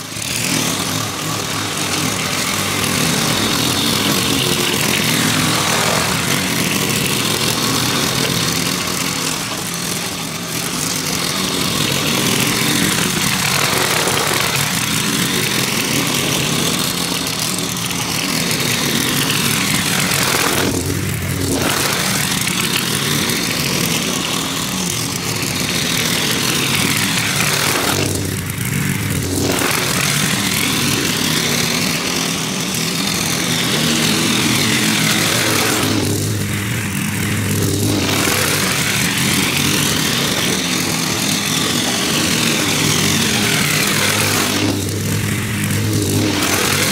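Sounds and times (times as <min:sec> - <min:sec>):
lawn mower running: 0:00.0 - 0:46.9.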